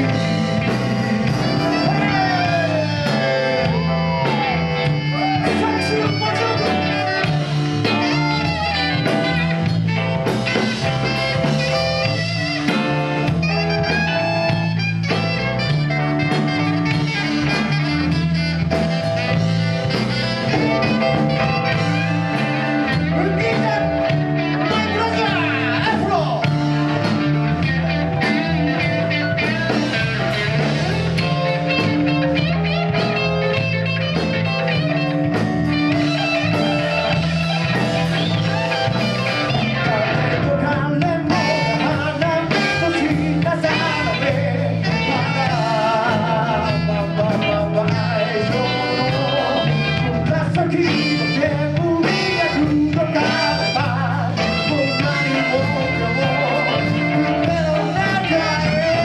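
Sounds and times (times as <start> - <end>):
bending melodic line: 0.0 - 59.0
electric guitar: 0.0 - 59.0
live rock band playing: 0.0 - 59.0
steady bass line: 0.0 - 59.0.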